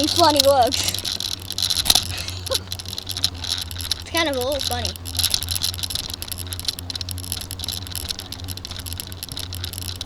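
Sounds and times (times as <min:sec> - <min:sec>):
bicycle tyre noise: 0:00.0 - 0:10.0
bike and camera rattling: 0:00.0 - 0:10.0.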